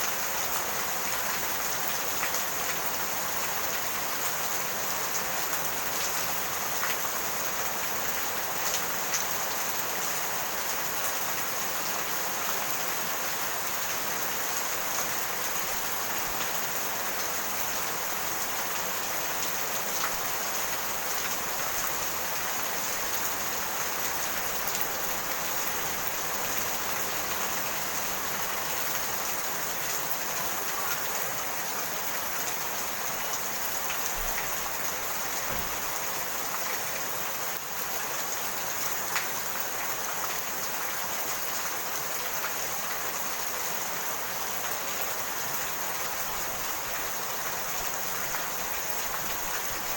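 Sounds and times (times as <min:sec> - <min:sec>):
steady rain pattering: 0:00.0 - 0:49.9.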